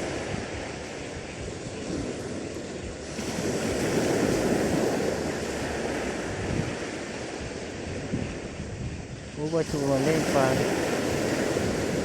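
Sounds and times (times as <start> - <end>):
sea surf on rocky shore: 0.0 - 12.0
wind rumbling on microphone: 0.0 - 12.0.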